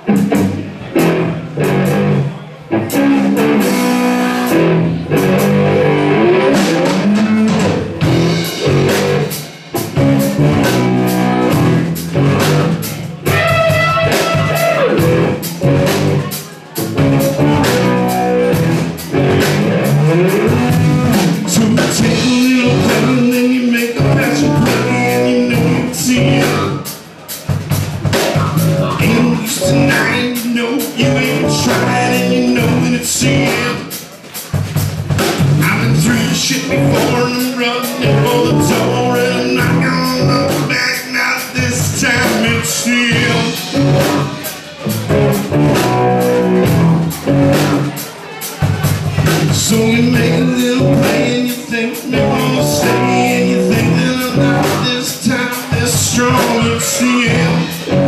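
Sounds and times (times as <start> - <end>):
person singing: 0.0 - 9.4, 10.0 - 27.1, 28.1 - 34.1, 35.6 - 58.0
drum kit: 0.0 - 58.0
electric guitar: 0.0 - 58.0.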